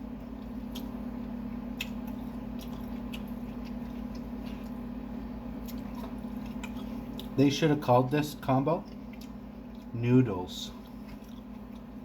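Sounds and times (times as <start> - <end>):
person chewing noodles: 0.0 - 7.4, 8.8 - 10.0, 10.6 - 12.0
steady low hum: 0.0 - 12.0.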